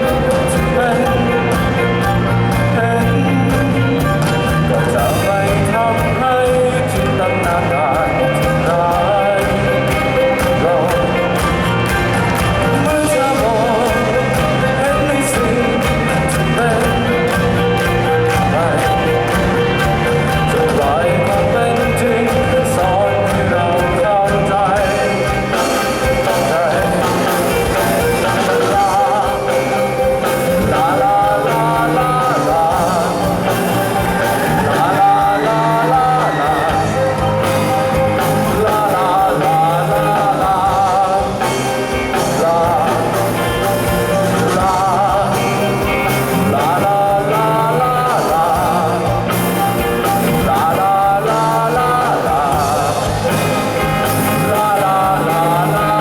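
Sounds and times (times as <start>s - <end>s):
band playing: 0.0s - 56.0s
person singing: 0.0s - 56.0s.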